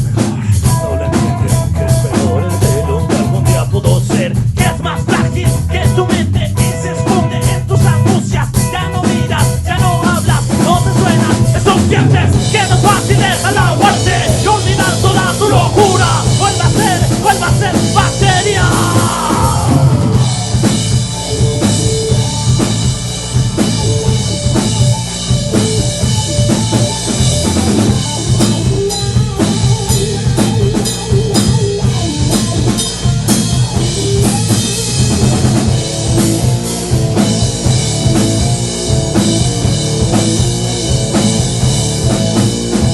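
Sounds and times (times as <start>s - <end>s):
rock band playing: 0.0s - 42.9s
lead guitar bending notes: 0.6s - 3.6s, 4.6s - 42.9s.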